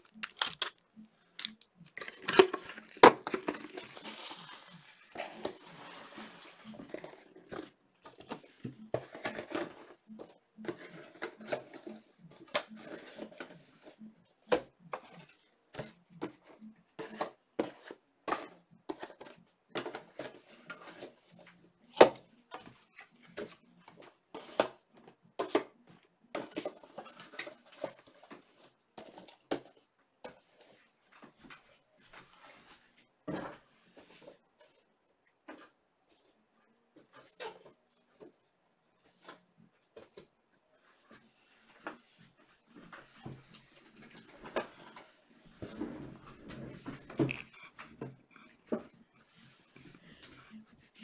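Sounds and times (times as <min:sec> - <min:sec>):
light rustling of packaging: 0:00.0 - 0:51.0.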